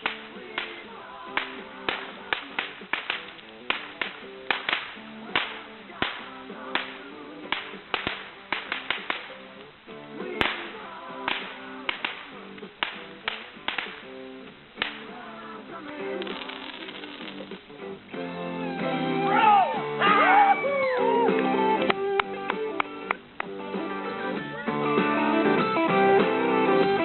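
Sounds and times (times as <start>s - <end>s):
firecrackers cracking: 0.0s - 19.3s, 20.8s - 27.0s
background music: 0.0s - 27.0s.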